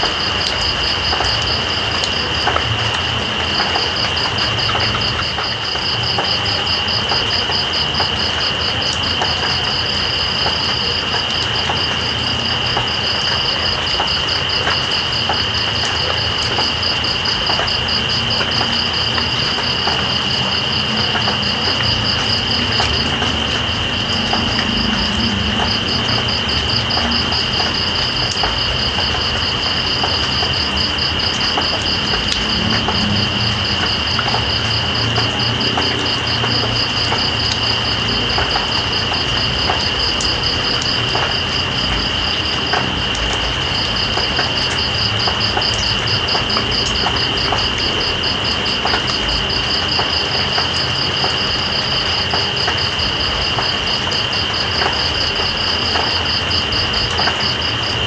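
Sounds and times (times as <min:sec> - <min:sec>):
raindrop ticks: 0:00.0 - 0:58.0
steady rain: 0:00.0 - 0:58.0.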